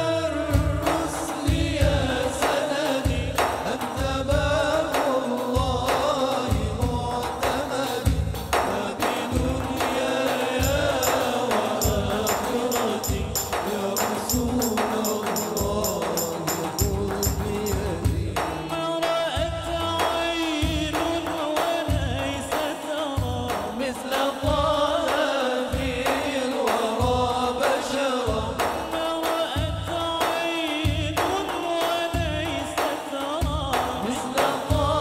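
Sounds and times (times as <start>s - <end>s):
hand drum rhythm: 0.5s - 35.0s.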